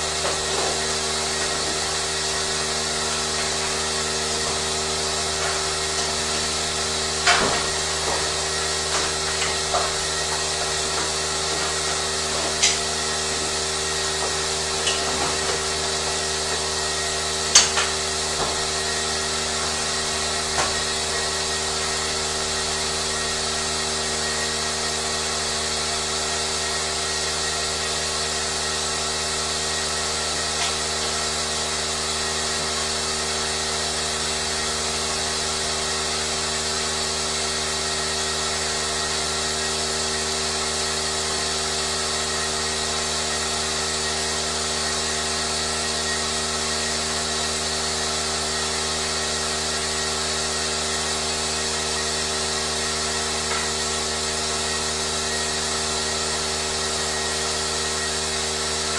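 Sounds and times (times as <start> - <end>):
milking machine hum and hiss: 0.0 - 58.9.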